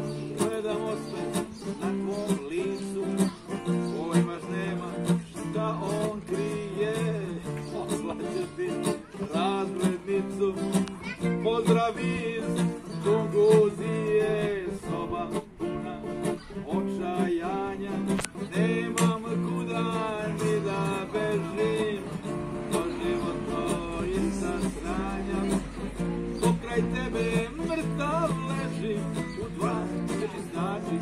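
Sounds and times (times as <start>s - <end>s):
acoustic guitars playing: 0.0s - 31.0s.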